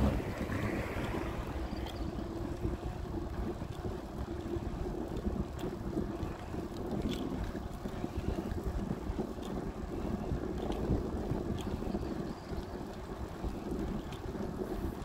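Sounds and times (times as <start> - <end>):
wind buffeting microphone: 0.0 - 15.0
faint ticks: 0.3 - 15.0.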